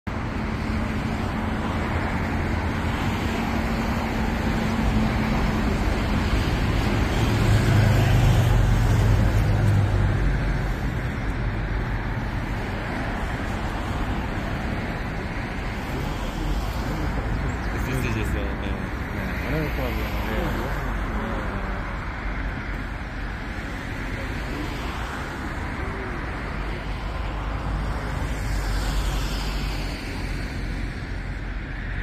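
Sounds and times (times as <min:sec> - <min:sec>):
heavy vehicle engine hum: 0:00.0 - 0:32.0
road traffic: 0:00.0 - 0:32.0.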